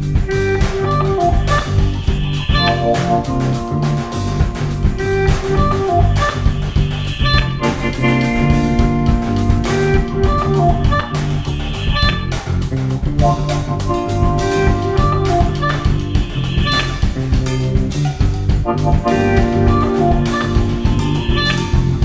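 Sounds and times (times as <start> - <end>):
guitar chords: 0.0 - 12.4, 13.2 - 22.0
drums and cymbal hits: 0.0 - 22.0
electric bass line: 0.0 - 22.0.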